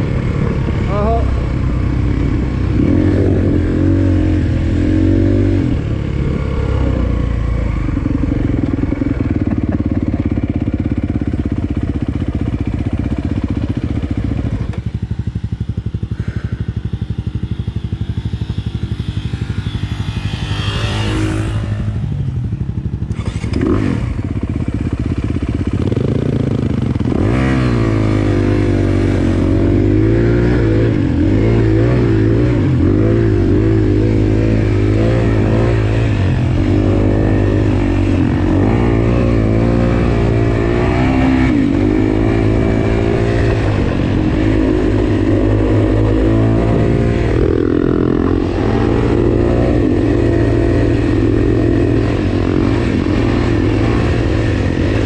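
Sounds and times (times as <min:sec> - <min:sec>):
dirt bike engine revving: 0:00.0 - 0:11.6, 0:16.2 - 0:22.2, 0:23.0 - 0:55.0.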